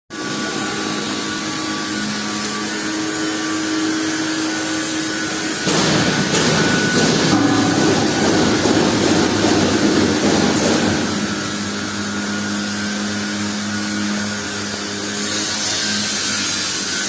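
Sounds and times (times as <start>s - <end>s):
welding buzzing hiss: 0.2s - 17.0s.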